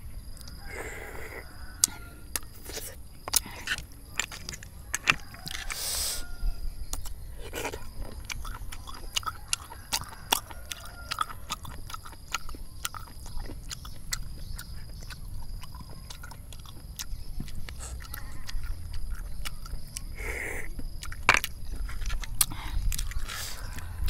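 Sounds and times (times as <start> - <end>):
person chewing wetly: 0.3 - 24.0.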